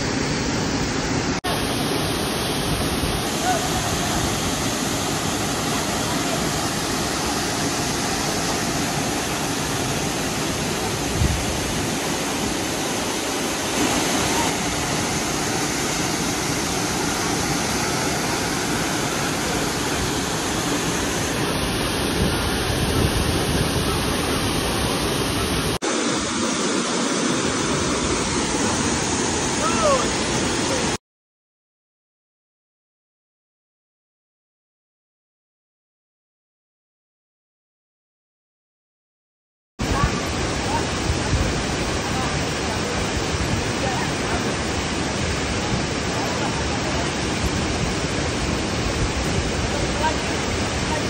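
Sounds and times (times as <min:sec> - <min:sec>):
shallow water rushing between boulders: 0:00.0 - 0:31.0, 0:39.8 - 0:51.0
waterfall roaring: 0:00.0 - 0:31.0, 0:39.8 - 0:51.0.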